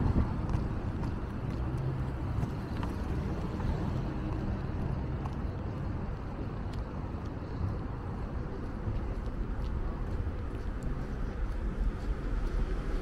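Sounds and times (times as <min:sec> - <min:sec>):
city traffic rumble: 0:00.0 - 0:13.0
wind: 0:00.0 - 0:13.0.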